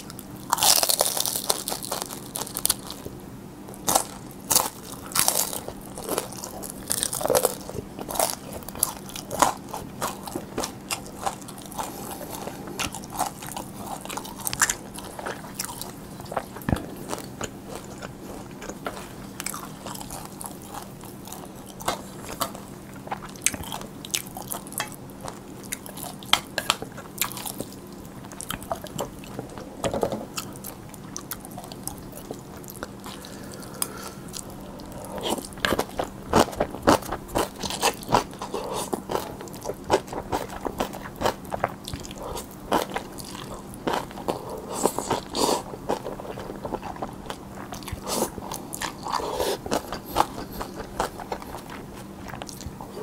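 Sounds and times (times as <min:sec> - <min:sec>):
chewing crunchy noodles: 0:00.0 - 0:53.0.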